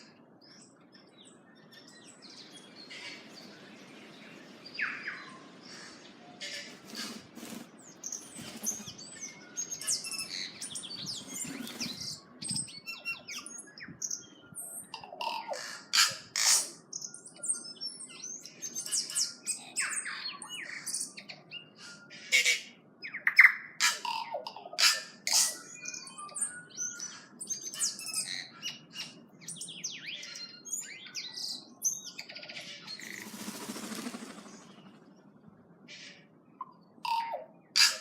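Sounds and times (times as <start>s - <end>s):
forest birds calling: 0.0s - 38.0s.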